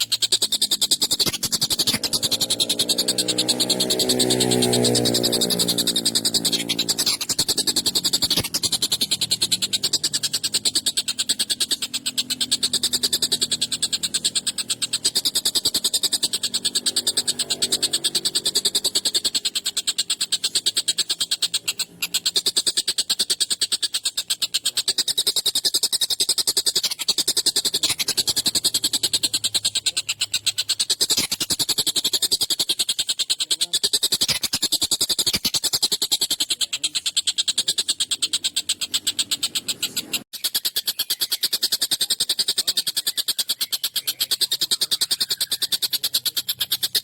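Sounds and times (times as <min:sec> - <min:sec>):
kingfisher harsh rattling call: 0:00.0 - 0:47.0.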